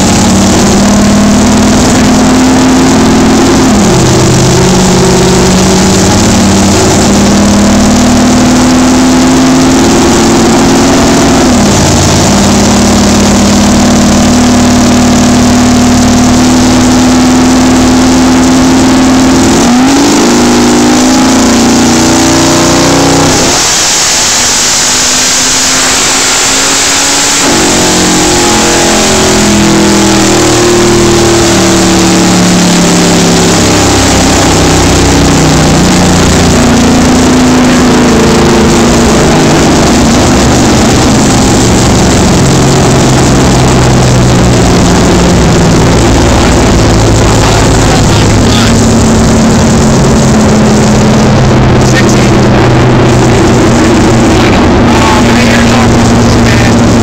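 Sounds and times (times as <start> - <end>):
loud engine revving on dynamometer: 0.0 - 57.0.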